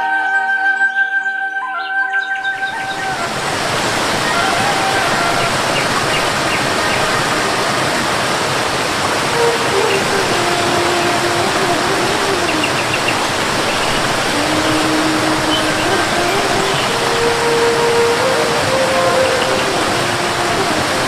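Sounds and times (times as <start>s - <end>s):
flowing water rushing: 2.6s - 21.0s.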